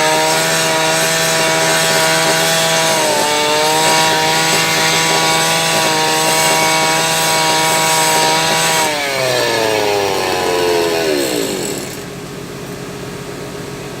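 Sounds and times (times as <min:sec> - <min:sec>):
motor winding down: 0:00.0 - 0:12.4.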